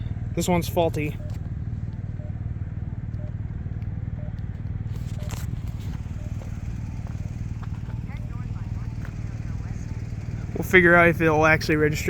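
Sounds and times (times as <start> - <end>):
traffic rumble: 0.0 - 12.0
wind: 0.0 - 12.0
pedestrian signal beeps: 0.9 - 10.7.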